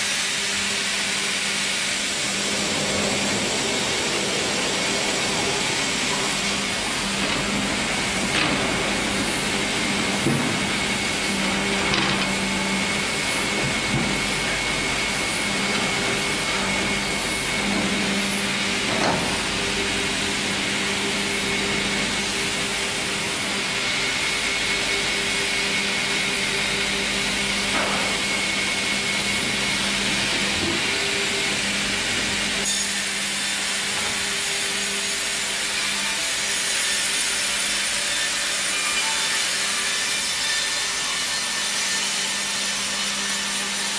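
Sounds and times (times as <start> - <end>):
band saw machinery whirring: 0.0 - 43.9.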